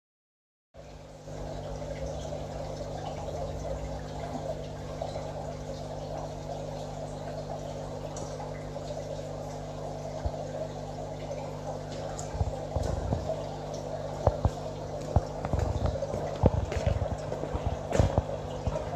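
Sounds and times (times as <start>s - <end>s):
constant low hum: 0.8s - 18.9s
trickle of moving water: 0.8s - 18.9s.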